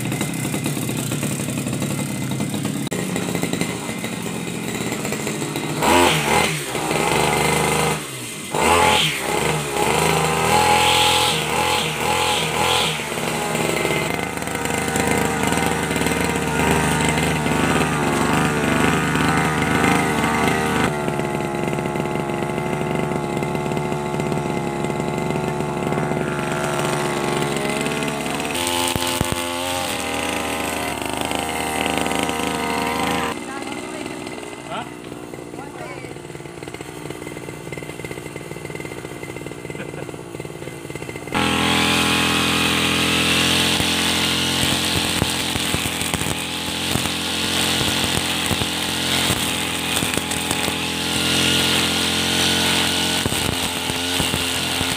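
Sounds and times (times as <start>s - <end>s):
brush cutter engine revving: 0.0s - 54.9s.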